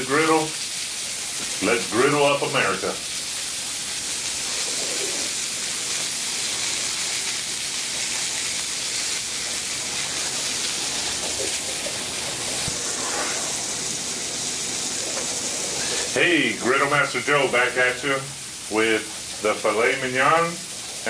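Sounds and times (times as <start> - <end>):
steaks sizzling on a griddle: 0.0 - 21.0.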